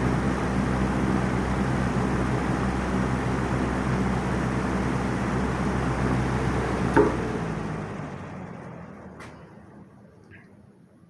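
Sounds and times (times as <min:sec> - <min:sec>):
box fan running: 0:00.0 - 0:10.3.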